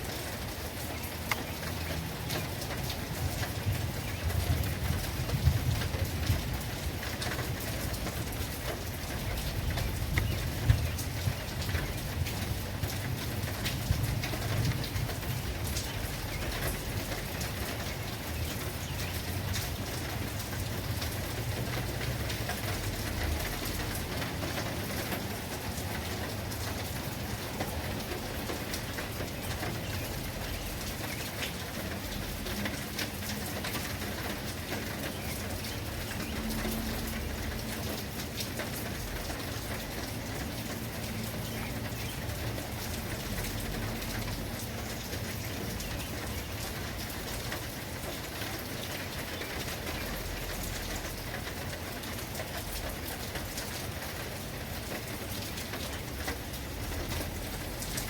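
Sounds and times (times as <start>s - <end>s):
heavy rain falling: 0.0s - 58.0s
raindrops pattering on surfaces: 0.0s - 58.0s.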